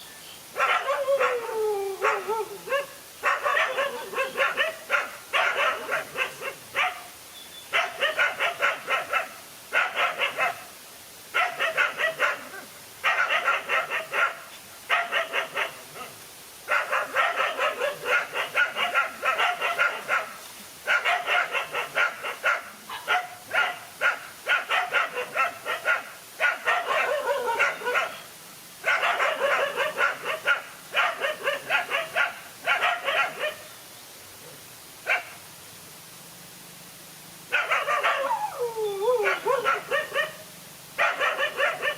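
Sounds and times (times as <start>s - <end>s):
dogs barking: 0.6s - 7.1s, 7.7s - 10.7s, 11.3s - 33.7s, 35.0s - 35.4s, 37.5s - 40.4s, 41.0s - 41.9s.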